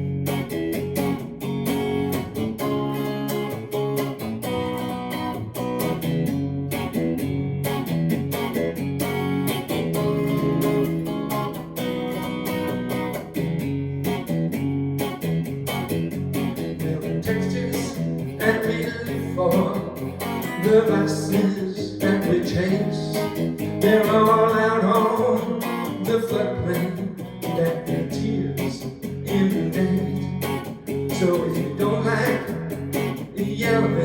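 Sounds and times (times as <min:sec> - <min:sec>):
guitar chords strummed: 0:00.0 - 0:34.0.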